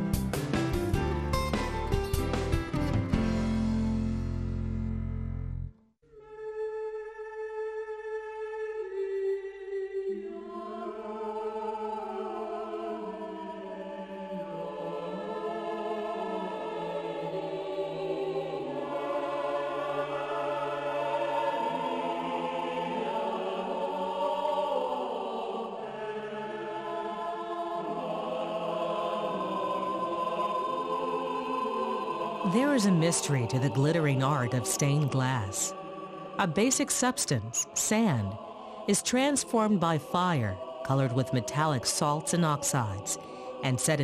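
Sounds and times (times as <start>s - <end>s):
slow choir-like chanted music: 6.2s - 44.0s.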